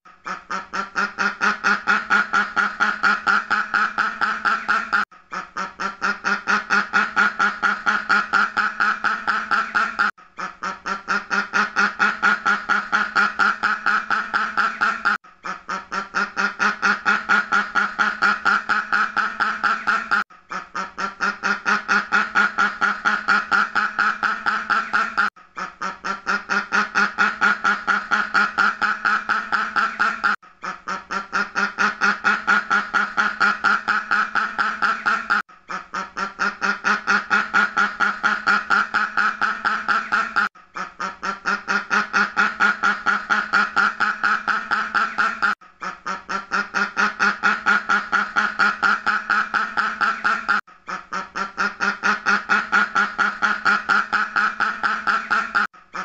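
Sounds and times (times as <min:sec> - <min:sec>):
duck quacking: 0:00.2 - 0:56.0.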